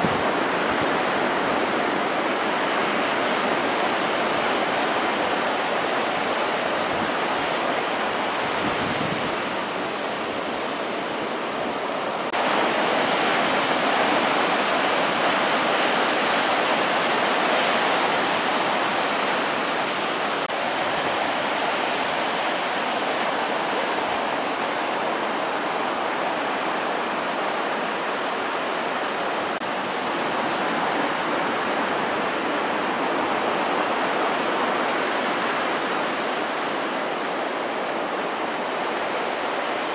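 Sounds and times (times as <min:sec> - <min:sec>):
surf breaking on beach: 0:00.0 - 0:39.9.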